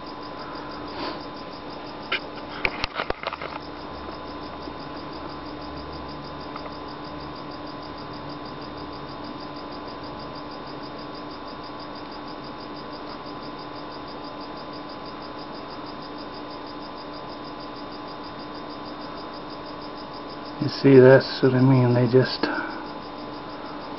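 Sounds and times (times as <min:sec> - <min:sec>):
crickets chirping: 0:00.0 - 0:23.9
steady background hum: 0:00.0 - 0:23.9.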